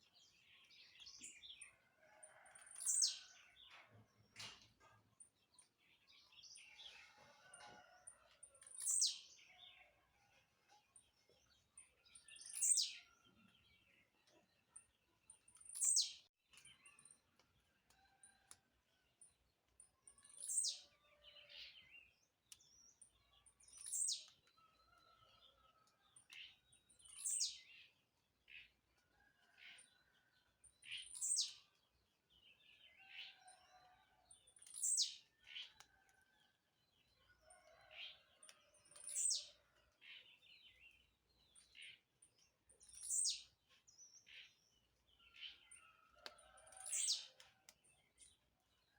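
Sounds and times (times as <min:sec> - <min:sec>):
faint chirps of other birds: 0:00.0 - 0:48.9.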